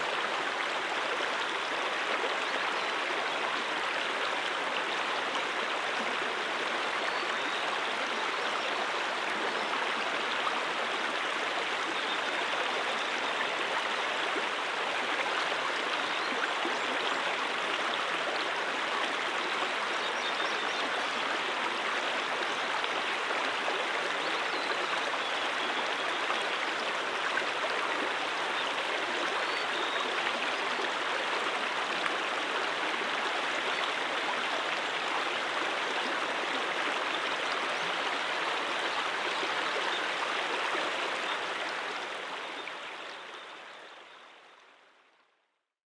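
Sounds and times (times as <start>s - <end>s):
brook water flowing: 0.0s - 45.2s.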